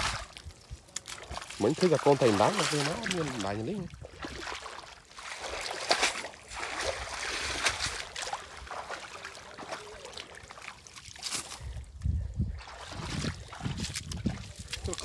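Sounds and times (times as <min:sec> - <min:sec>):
muddy water splashing: 0:00.0 - 0:15.0.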